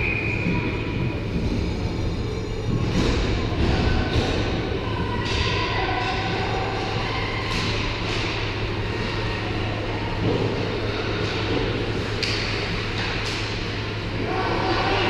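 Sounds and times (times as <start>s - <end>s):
low arena hum: 0.0s - 15.0s.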